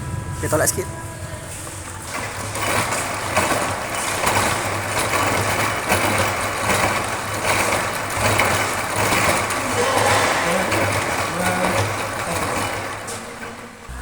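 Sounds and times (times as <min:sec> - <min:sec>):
washing machine drum churning: 0:00.0 - 0:14.0.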